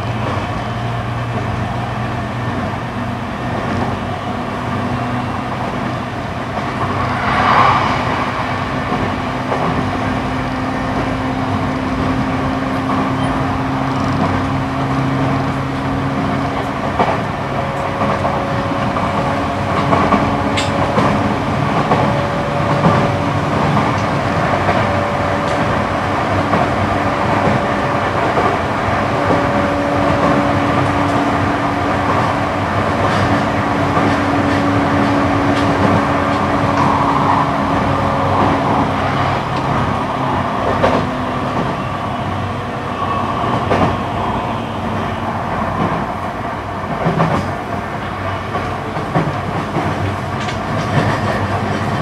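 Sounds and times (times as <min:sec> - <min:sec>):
rail joint clicks: 0:00.0 - 0:52.0
train wheels rumbling on rail: 0:00.0 - 0:52.0.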